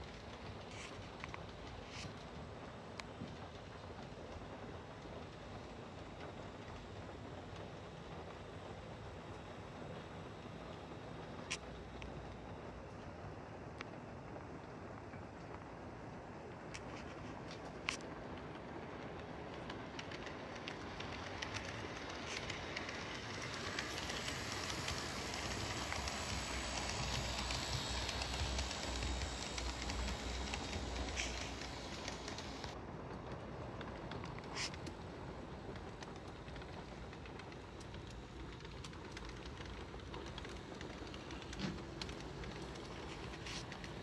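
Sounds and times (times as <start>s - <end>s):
model train wheels rumbling on rails: 0.0s - 12.8s, 15.8s - 44.0s.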